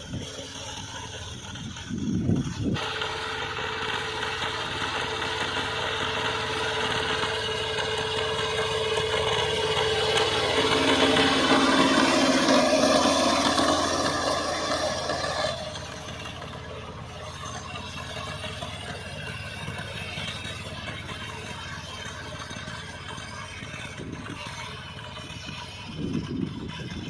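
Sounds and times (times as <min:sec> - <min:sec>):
tiller engine rattling: 0:00.0 - 0:27.0.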